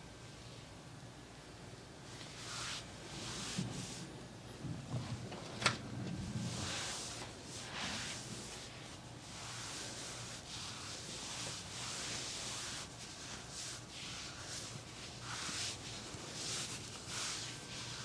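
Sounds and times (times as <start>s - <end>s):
massage rubbing strokes: 2.1s - 5.3s, 5.9s - 18.0s.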